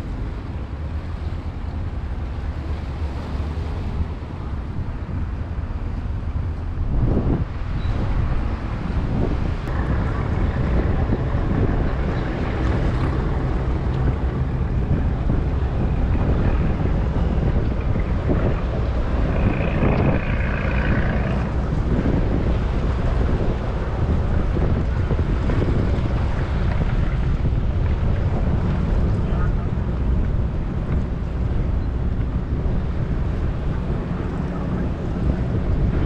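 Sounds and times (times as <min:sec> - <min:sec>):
boat engine rumble: 0:00.0 - 0:36.0
water wash: 0:00.0 - 0:36.0
wind buffeting microphone: 0:00.0 - 0:36.0.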